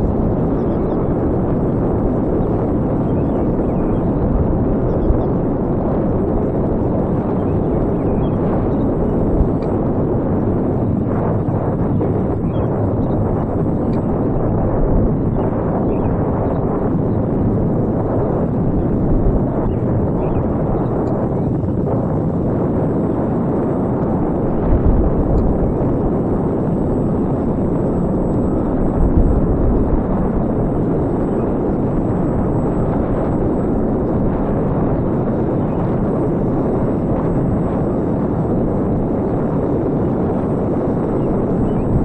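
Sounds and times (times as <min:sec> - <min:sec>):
wind rushing on microphone: 0:00.0 - 0:42.0.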